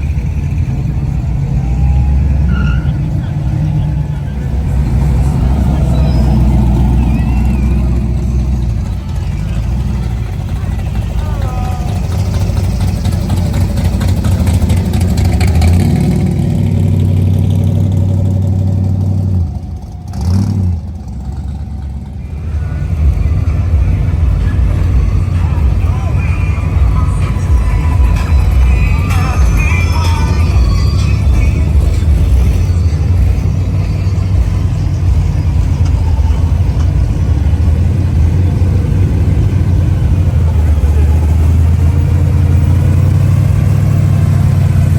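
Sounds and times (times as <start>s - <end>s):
car engine revving: 0.0s - 44.9s
car engine running: 0.0s - 44.9s.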